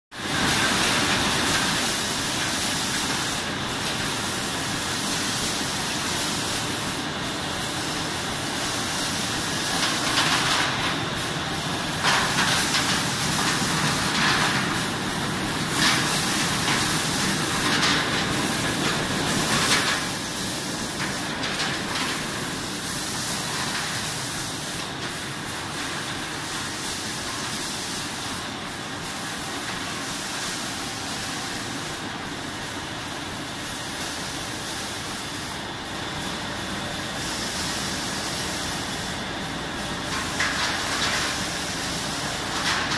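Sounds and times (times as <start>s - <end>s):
loud air blasts: 0.2s - 42.9s
machine compressed air hiss: 0.2s - 42.9s.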